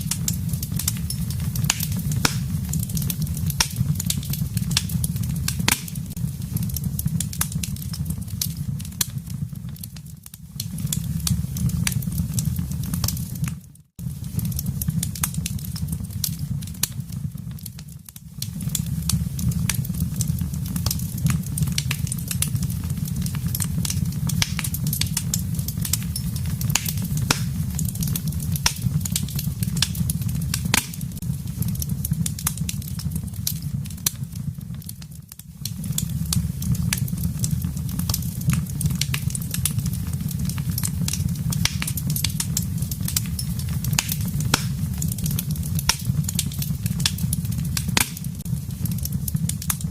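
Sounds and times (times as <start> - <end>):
low rumble of flames: 0.0 - 49.9
wood crackling and popping: 0.0 - 49.9.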